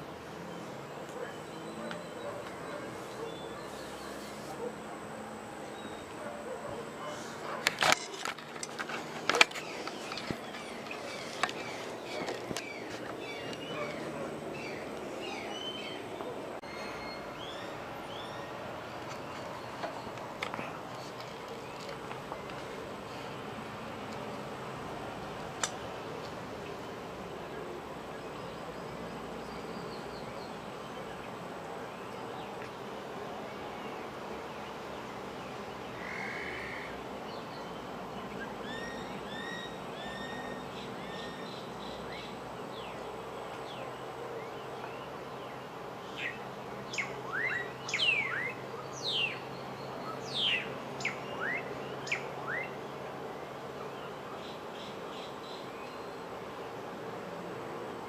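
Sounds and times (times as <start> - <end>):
wild birds calling: 0.0 - 56.9
outdoor background hiss: 0.0 - 58.0.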